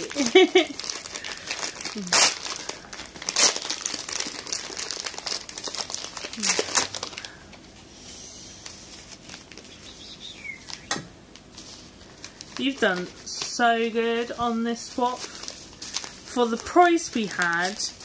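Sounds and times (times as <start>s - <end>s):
packaging crinkling: 0.0s - 7.7s, 8.6s - 18.0s.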